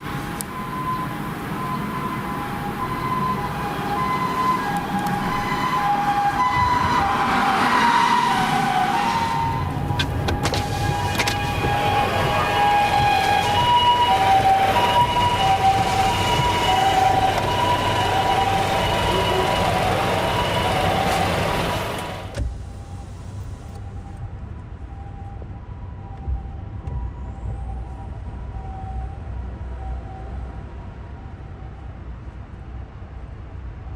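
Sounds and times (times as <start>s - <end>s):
two-tone ambulance siren: 0.0s - 23.2s, 23.8s - 31.9s
road noise of passing vehicle: 0.0s - 33.9s.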